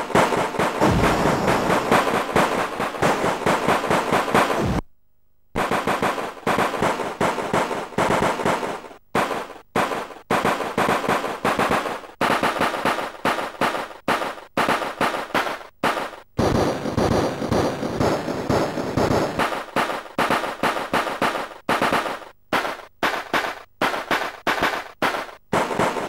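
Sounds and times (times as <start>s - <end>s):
rapid machine-gun fire: 0.0s - 4.8s, 5.6s - 26.0s.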